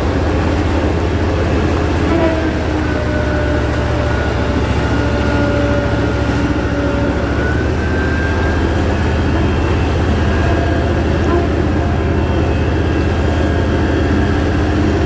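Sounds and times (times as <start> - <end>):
churning water rushing: 0.0 - 15.0
heavy diesel engine rumbling: 0.0 - 15.0.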